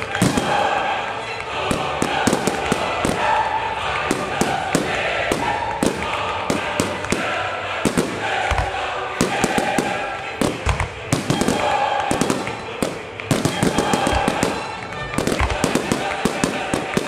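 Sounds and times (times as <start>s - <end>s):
deep fireworks booms: 0.0s - 0.8s, 1.7s - 17.0s
fireworks bangs and crackling: 0.0s - 17.0s.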